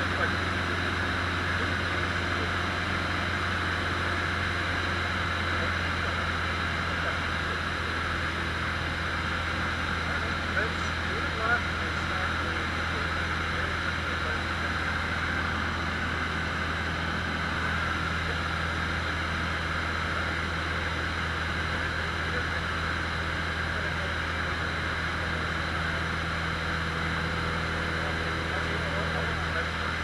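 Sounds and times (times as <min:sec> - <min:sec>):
airplane engine droning in cockpit: 0:00.0 - 0:30.0.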